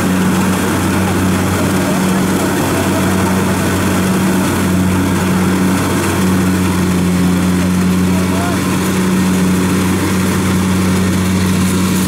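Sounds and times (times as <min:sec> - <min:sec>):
combine harvester engine humming: 0:00.0 - 0:12.0.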